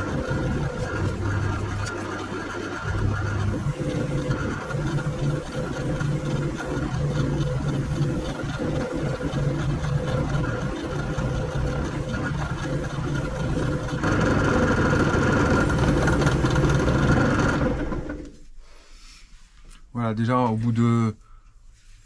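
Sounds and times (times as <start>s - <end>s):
brush wheel grinding steel: 0.0s - 18.2s
drill press motor hum: 0.0s - 18.4s.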